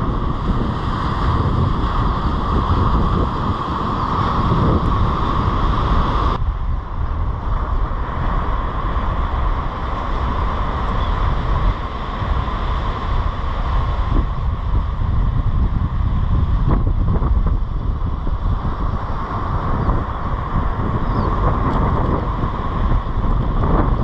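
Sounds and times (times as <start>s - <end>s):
breaking surf: 0.0s - 24.0s
wind buffeting microphone: 0.0s - 24.0s.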